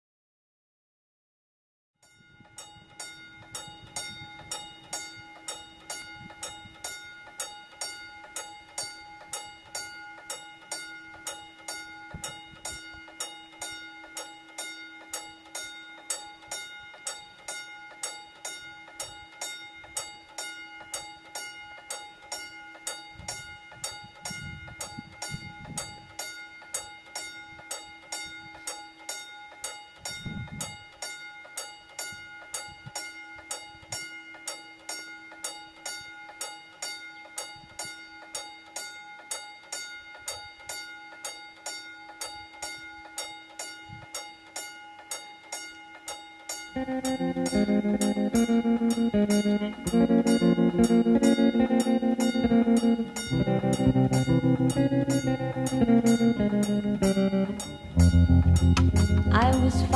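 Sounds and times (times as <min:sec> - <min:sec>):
level-crossing warning bell ringing: 0:02.0 - 0:59.9.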